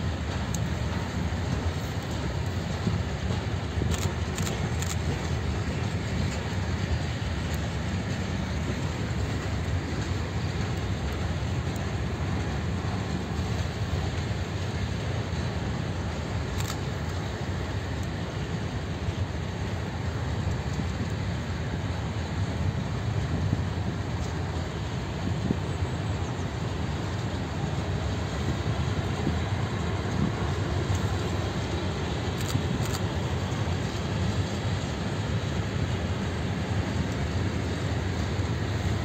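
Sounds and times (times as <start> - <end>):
freight train wheels rumbling on rails: 0.0 - 39.0.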